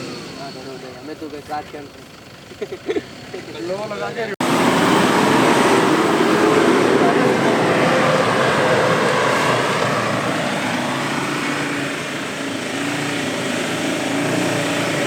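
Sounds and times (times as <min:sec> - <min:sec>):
diesel engine rumbling under load: 0:00.0 - 0:15.0.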